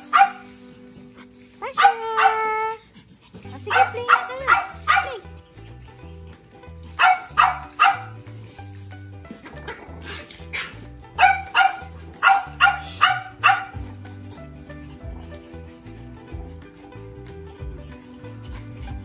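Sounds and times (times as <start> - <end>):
puppies barking and yipping: 0.0 - 19.0.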